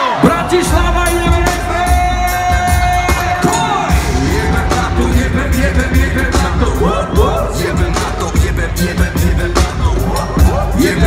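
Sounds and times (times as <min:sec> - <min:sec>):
live hip-hop band music: 0:00.0 - 0:11.0.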